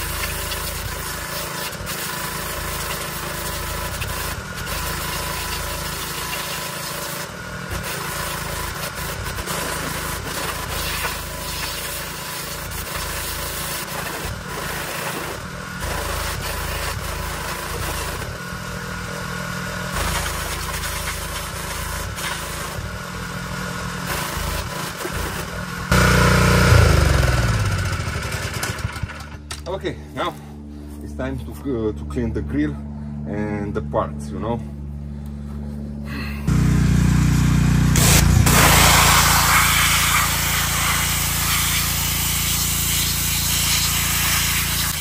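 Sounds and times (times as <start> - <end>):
pressure washer spraying: 0.0 - 29.1, 36.5 - 45.0.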